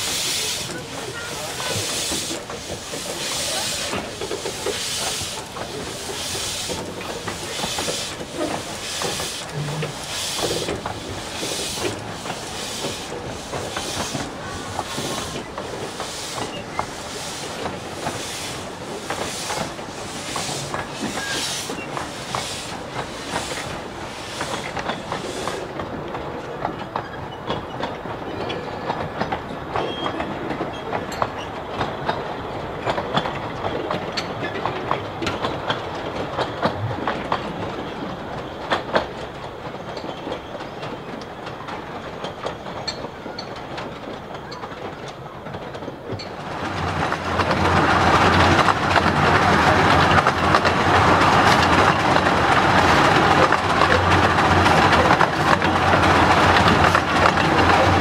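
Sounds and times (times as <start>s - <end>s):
rumble of riding carriage: 0.0s - 58.0s
wheels clicking over rail joints: 0.0s - 58.0s.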